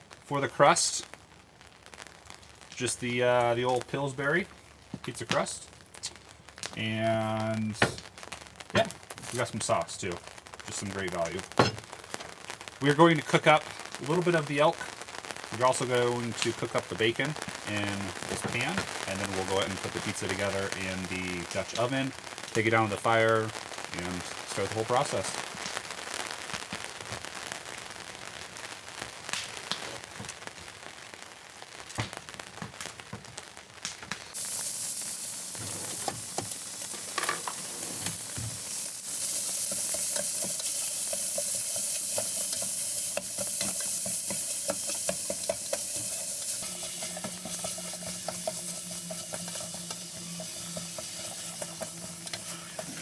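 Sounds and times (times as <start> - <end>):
meat sizzling in a pan: 0.0 - 53.0.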